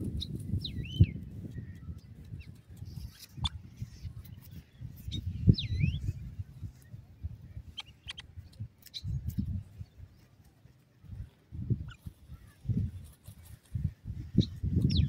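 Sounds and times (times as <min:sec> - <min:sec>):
birds scuffling and flapping in dirt: 0:00.0 - 0:15.0.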